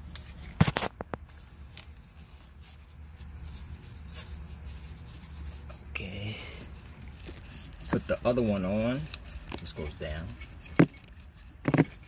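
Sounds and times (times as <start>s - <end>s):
faint scraping and ticking: 0.0s - 12.0s
low steady hum: 0.0s - 12.0s.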